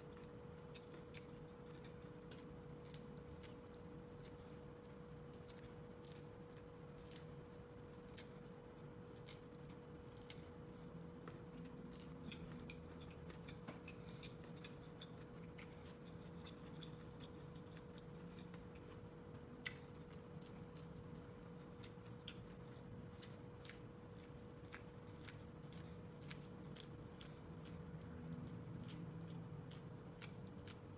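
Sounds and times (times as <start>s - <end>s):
corn being bitten and chewed: 0.0s - 30.9s
steady low hum: 0.0s - 30.9s.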